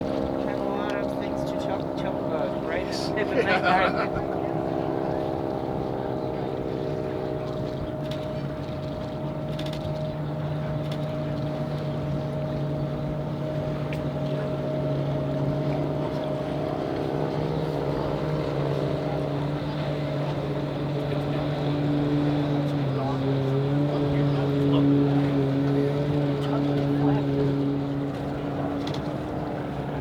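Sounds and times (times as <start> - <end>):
airplane engine flying past: 0.0 - 30.0
boat engine drone: 0.0 - 30.0.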